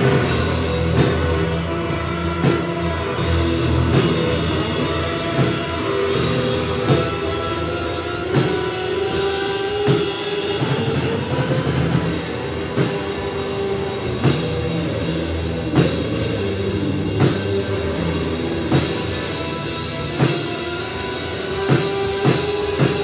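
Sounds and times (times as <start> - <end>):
drum kit: 0.0 - 23.0.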